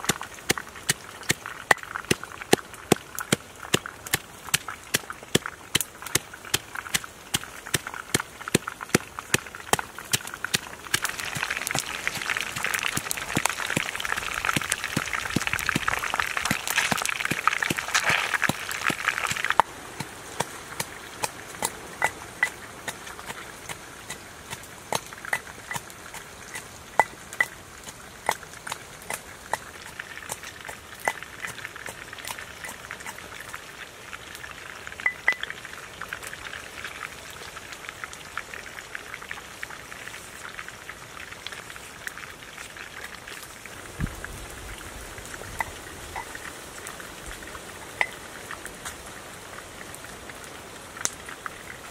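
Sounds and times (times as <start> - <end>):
fish frying in hot oil: 0.0 - 51.9.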